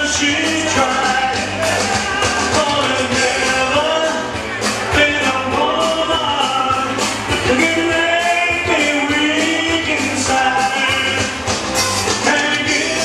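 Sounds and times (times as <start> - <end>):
live country-rock band playing: 0.0 - 13.0
person singing: 0.0 - 13.0.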